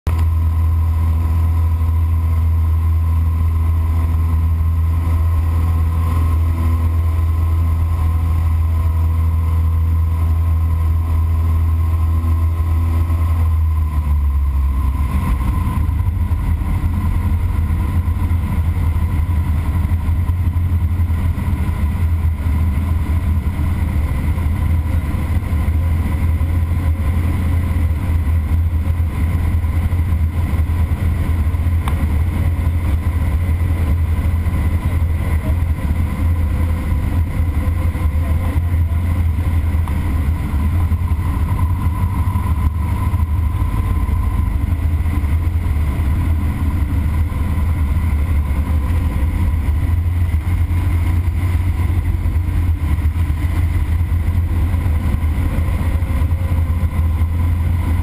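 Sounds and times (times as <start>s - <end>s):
light aircraft engine droning: 0.1s - 58.0s.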